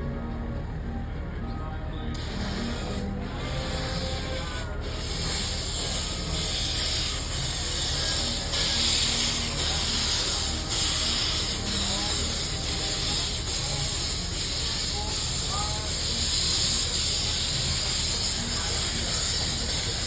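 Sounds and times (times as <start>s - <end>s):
steam hissing in surges: 2.2s - 20.0s.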